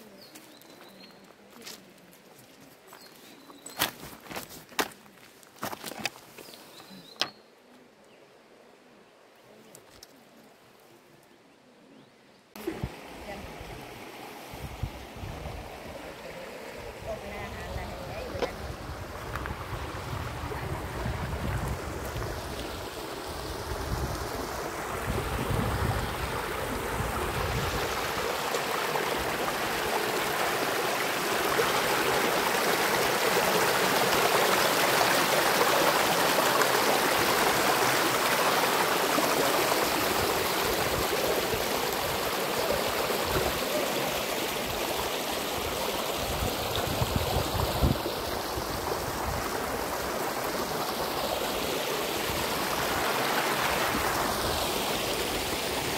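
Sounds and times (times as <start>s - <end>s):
stream rushing over stones: 0.0s - 7.4s, 12.6s - 55.9s.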